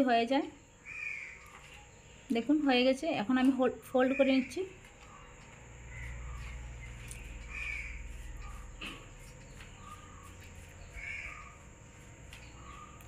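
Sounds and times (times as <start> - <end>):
bird calls: 0.7 - 2.5, 4.0 - 13.0.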